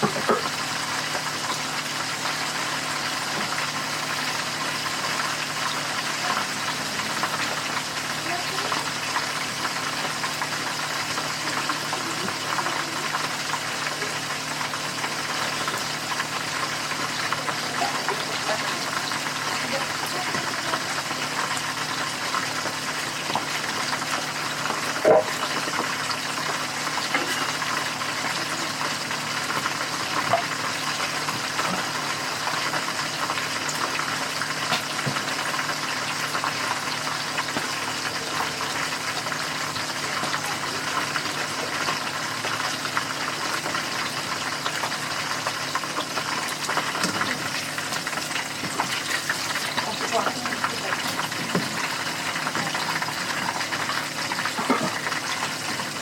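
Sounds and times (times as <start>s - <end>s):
oil sizzling in a frying pan: 0.0s - 56.0s.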